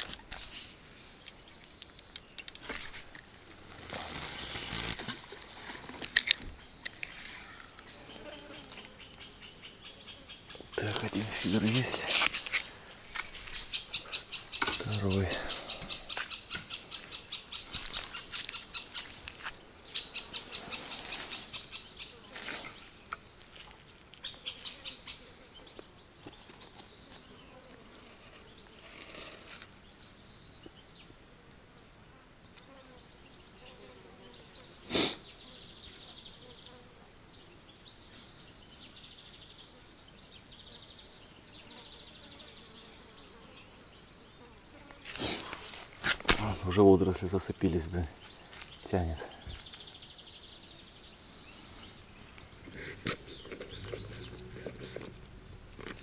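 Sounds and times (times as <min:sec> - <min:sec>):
birds singing and chirping: 0:01.0 - 0:56.0.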